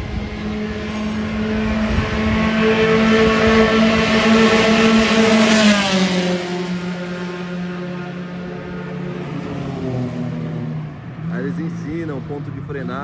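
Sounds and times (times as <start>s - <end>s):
car engine passing by: 0.0s - 13.0s.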